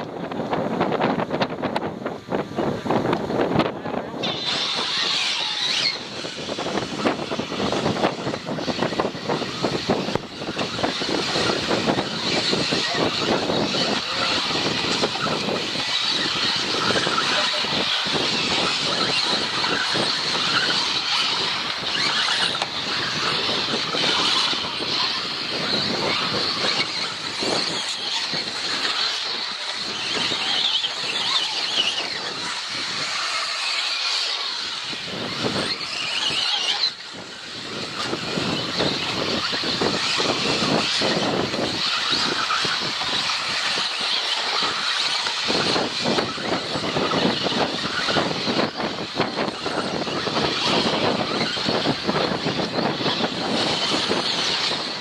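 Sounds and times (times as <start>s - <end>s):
rc buggies high-pitched whine: 2.3s - 55.0s.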